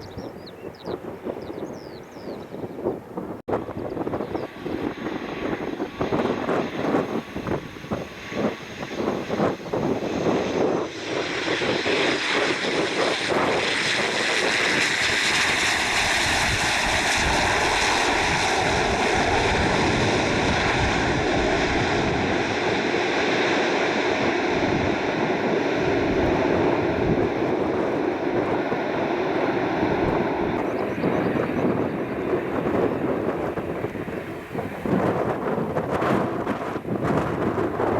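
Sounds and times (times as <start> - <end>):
aircraft engines running: 0.0 - 37.9
wind buffeting microphone: 0.0 - 37.9.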